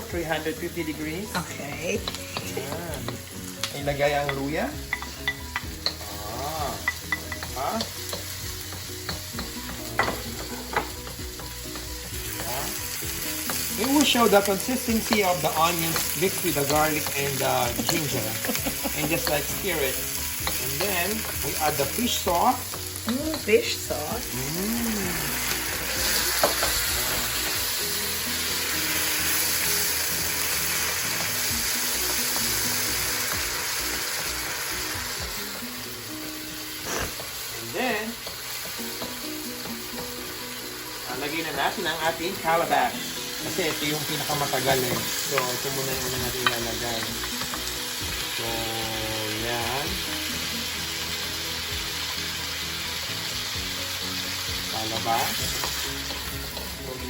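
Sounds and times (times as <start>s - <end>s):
faint background music: 0.0s - 57.0s
food sizzling in oil: 0.0s - 57.0s.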